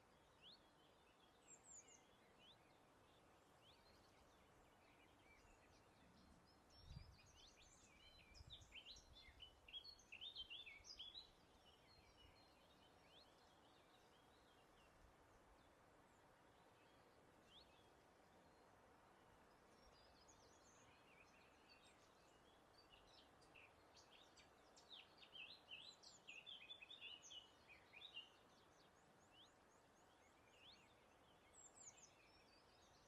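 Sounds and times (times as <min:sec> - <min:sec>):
steady low hiss: 0:00.0 - 0:33.0.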